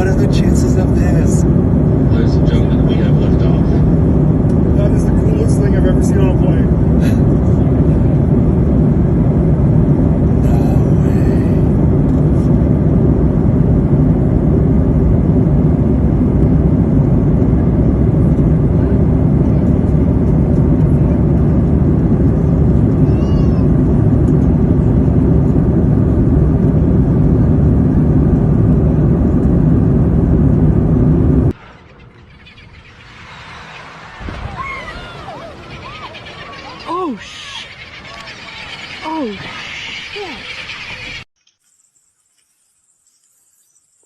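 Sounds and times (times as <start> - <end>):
aircraft cabin roar: 0.0 - 41.3.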